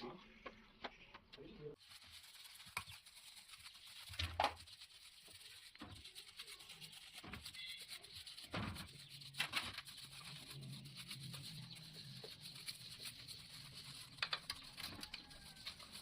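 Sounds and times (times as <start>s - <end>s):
knocks and rubbing of engine parts: 2.2s - 16.0s.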